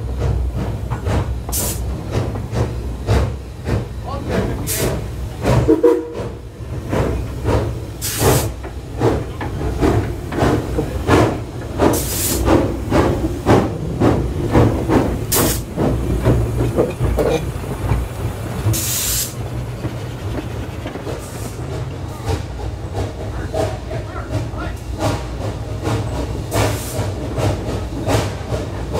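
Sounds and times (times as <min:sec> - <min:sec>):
steam locomotive chuffing: 0:00.0 - 0:28.9
loud steam hisses: 0:00.3 - 0:28.9.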